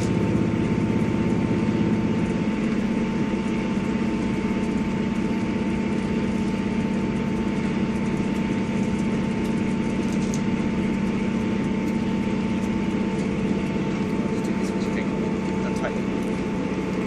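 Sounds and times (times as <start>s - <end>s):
thin steady whine: 0.0s - 17.0s
train diesel engine droning: 0.0s - 17.0s.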